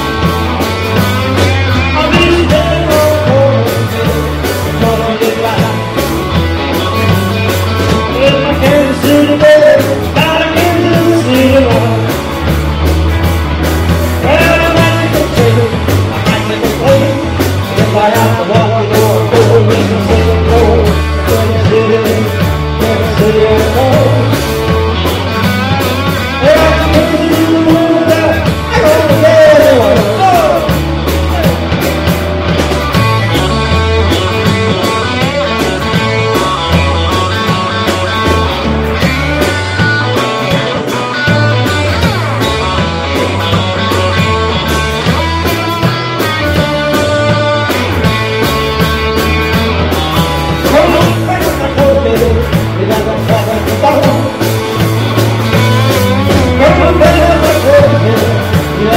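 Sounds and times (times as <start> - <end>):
live rock and roll band: 0.0 - 58.9.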